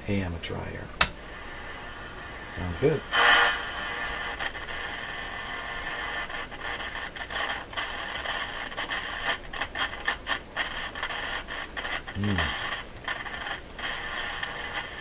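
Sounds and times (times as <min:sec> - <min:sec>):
radio crackles: 0:00.0 - 0:15.0
radio static hiss: 0:00.0 - 0:15.0.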